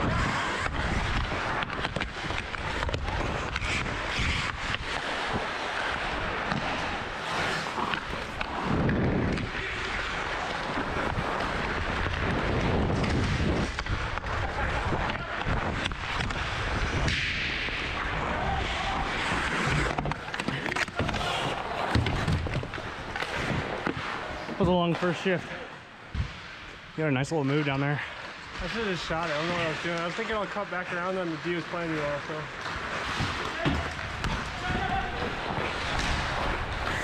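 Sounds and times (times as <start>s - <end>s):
ice skates scraping on ice: 0.0s - 37.0s.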